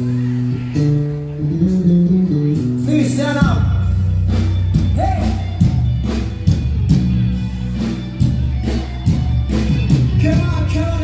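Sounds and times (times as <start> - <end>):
bass guitar: 0.0 - 11.0
electric guitar: 0.0 - 11.0.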